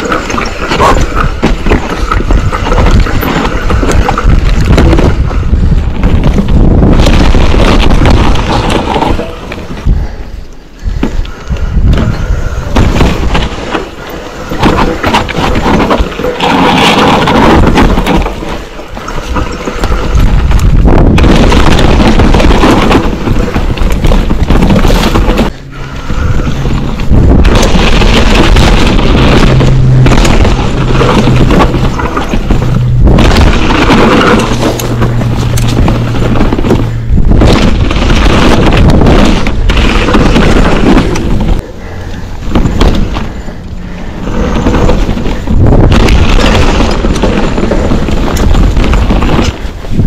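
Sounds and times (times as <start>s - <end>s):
bike knocking and rattling: 0.0s - 50.0s
tyres on dirt and rock: 0.0s - 50.0s
wind buffeting microphone: 0.0s - 50.0s.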